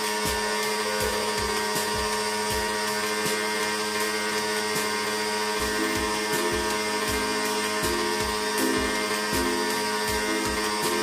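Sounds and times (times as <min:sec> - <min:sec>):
background music with a beat: 0:00.0 - 0:11.0
pressure washer motor whining: 0:00.0 - 0:11.0.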